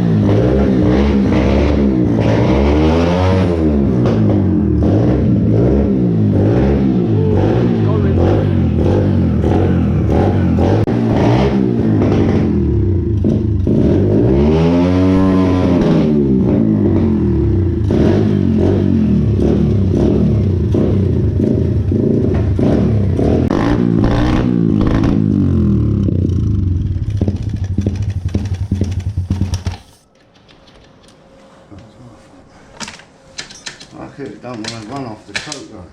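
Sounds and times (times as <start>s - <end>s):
pit bike engine revving and idling: 0.0s - 30.0s.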